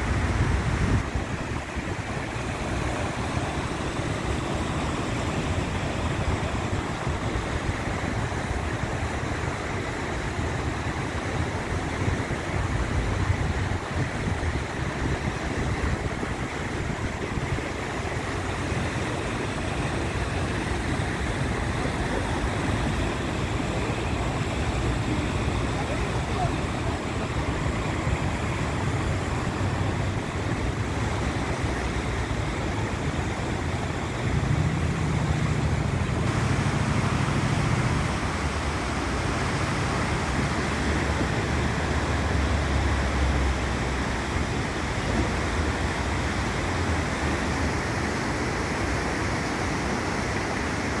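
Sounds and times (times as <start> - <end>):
floodwater rushing in a channel: 0.0 - 51.0.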